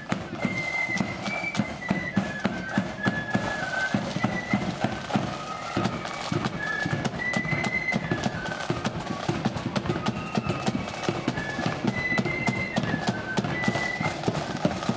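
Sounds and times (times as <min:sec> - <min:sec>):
drum strokes patter: 0:00.0 - 0:14.9
flute melody: 0:00.0 - 0:14.9.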